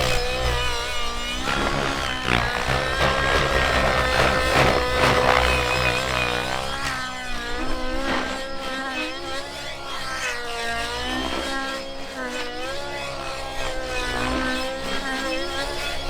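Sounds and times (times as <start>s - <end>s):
model helicopter engine at high speed: 0.0s - 16.0s.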